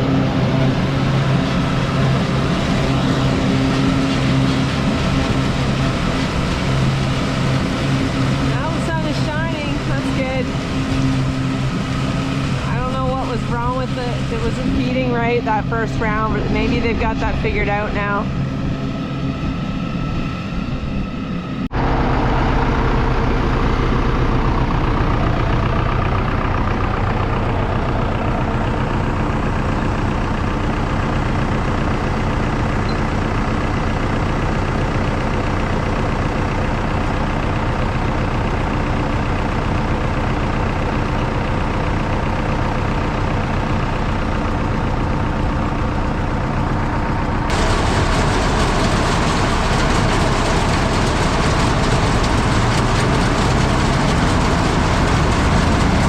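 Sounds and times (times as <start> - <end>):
tractor and forage harvester running: 0.0 - 56.0.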